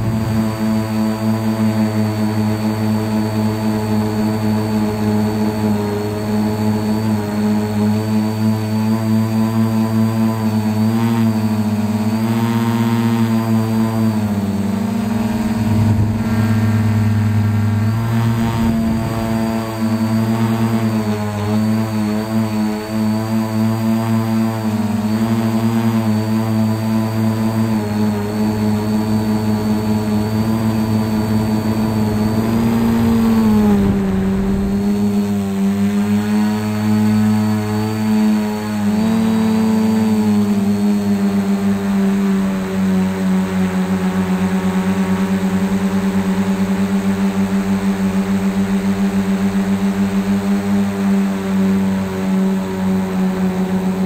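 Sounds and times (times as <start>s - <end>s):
quadcopter motors humming: 0.0s - 54.0s.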